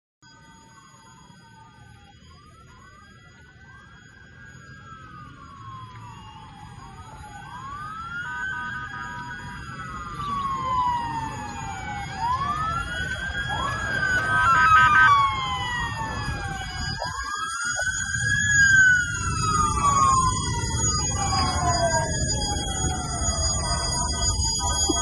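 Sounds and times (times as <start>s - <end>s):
emergency sirens wailing: 0.2s - 25.0s.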